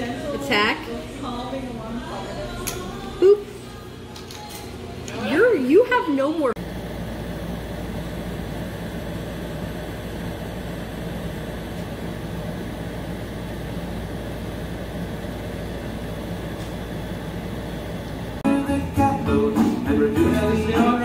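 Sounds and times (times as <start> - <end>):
ventilation drone and hiss: 0.0 - 21.0.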